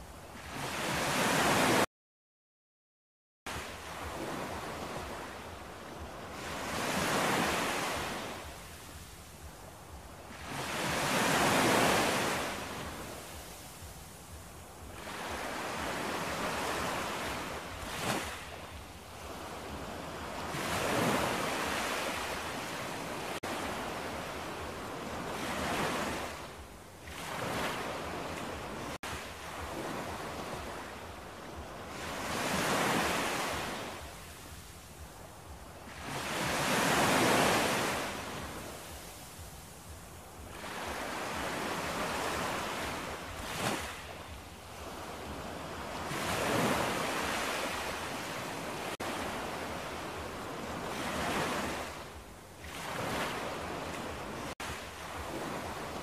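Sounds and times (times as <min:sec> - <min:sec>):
waves breaking on shore: 0:00.0 - 0:01.9, 0:03.5 - 0:56.0.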